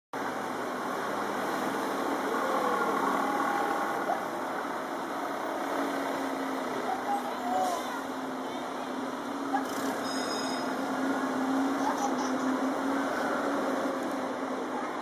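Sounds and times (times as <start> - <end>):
street traffic hum: 0.1 - 15.0.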